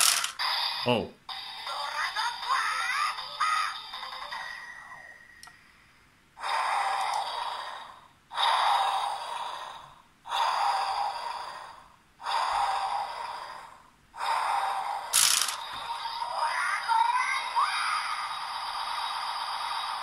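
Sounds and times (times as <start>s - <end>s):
toy breathy noise effect: 0.0s - 5.7s, 6.4s - 19.8s.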